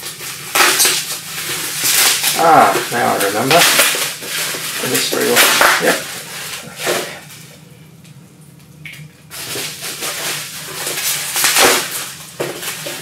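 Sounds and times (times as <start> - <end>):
packaging rustling while unwrapped: 0.0 - 7.5, 9.3 - 13.0.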